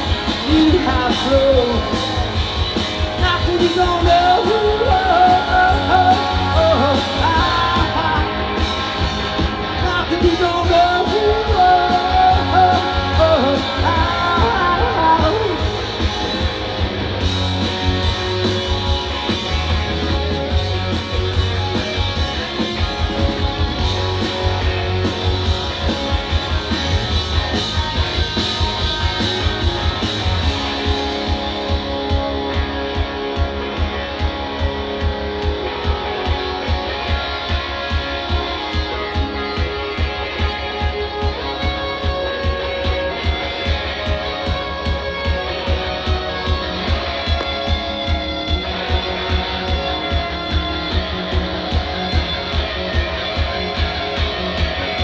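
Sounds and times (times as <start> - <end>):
bending melodic guitar line: 0.0 - 55.0
live rock band playing: 0.0 - 55.0.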